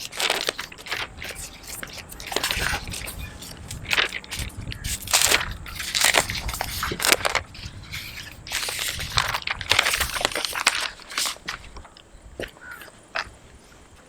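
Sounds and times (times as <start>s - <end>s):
packaging crinkling and scraping: 0.0s - 13.4s.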